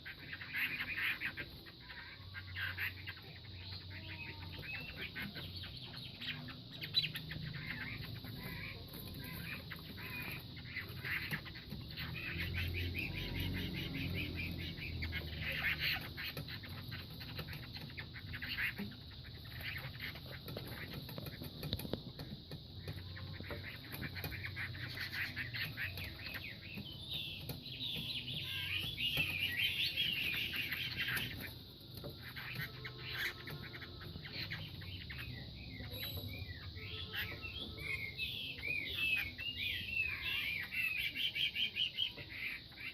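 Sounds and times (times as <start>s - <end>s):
high chirping calls: 0.0s - 42.9s.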